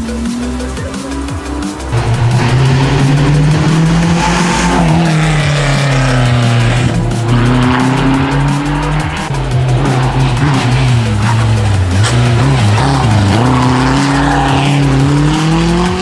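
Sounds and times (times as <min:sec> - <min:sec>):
electronic music with bass line: 0:00.0 - 0:16.0
rally car engine revving: 0:00.0 - 0:16.0.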